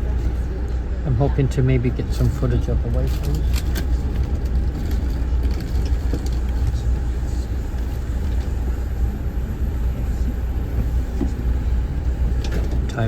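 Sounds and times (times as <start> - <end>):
train rumble from inside coach: 0.0 - 13.0.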